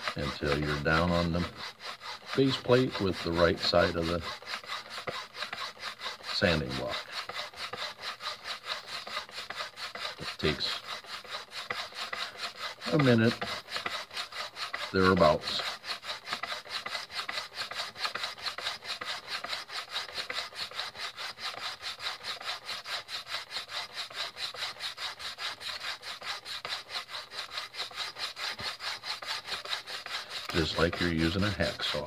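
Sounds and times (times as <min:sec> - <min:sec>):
sanding block rasping on belting: 0:00.0 - 0:32.0.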